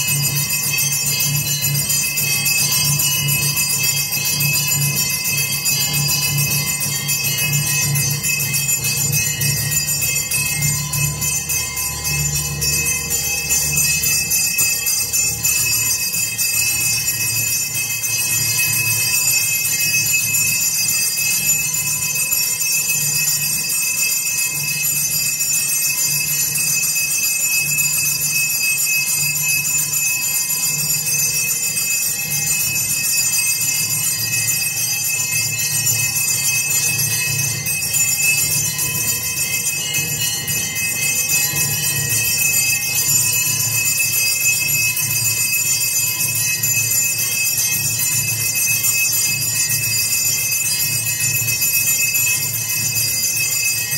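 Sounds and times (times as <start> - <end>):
bells ringing: 0.0 - 53.9.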